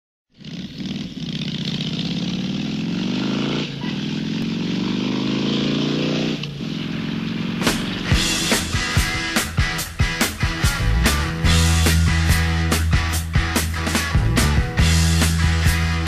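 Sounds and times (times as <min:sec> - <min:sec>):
motorcycle engine accelerating: 0:00.3 - 0:16.0.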